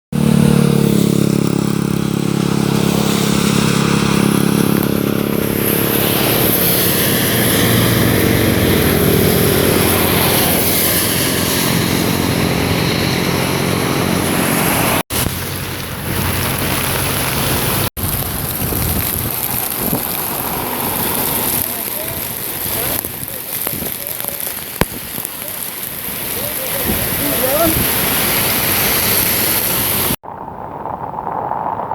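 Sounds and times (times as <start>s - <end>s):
vehicle engine hum: 0.1s - 30.9s
rain and wet tyres hissing: 0.2s - 31.9s.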